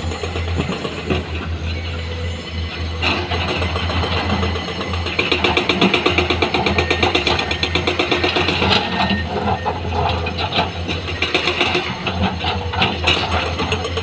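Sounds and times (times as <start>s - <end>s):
heavy diesel machinery throbbing: 0.0s - 14.0s.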